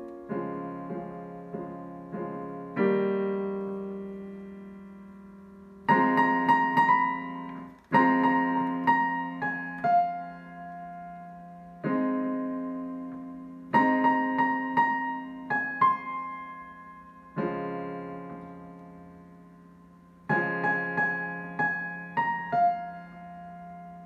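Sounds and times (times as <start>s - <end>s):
slow piano piece: 0.0s - 24.0s.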